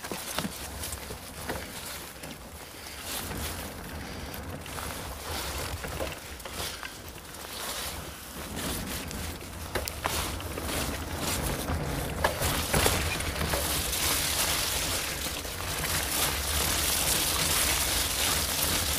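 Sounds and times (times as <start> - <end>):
bike clicks and rattles: 0.0 - 18.9
bike tyres rolling: 0.0 - 18.9
wind rumble on microphone: 0.5 - 18.9.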